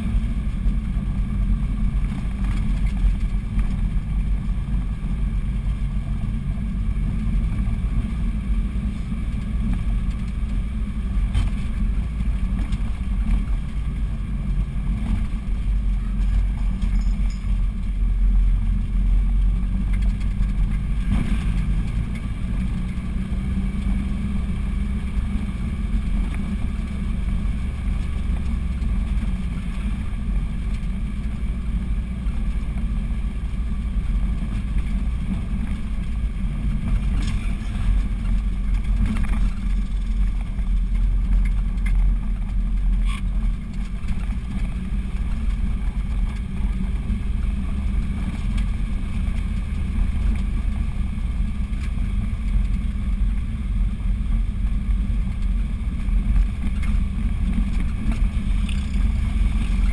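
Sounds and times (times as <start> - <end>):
car engine running: 0.0 - 59.9
road rumble: 0.0 - 59.9.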